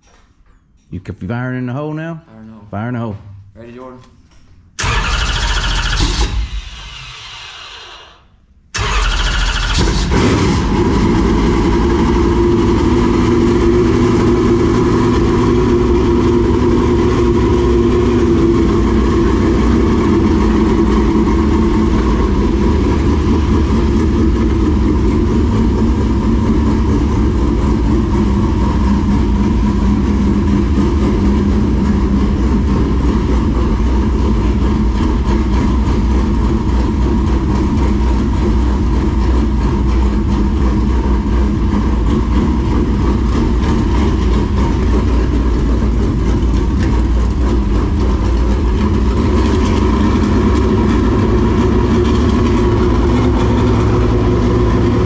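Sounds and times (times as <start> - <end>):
engine starting and running: 4.3 - 55.0.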